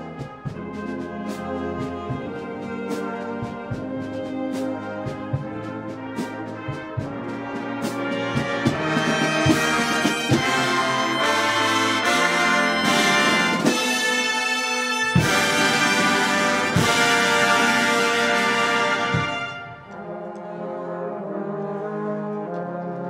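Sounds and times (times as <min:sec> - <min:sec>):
marching wind band playing: 0:00.0 - 0:23.0.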